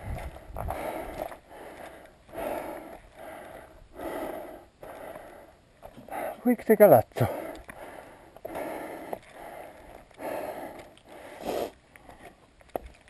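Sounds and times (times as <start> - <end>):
person breathing heavily: 0.0 - 6.5, 7.2 - 12.4.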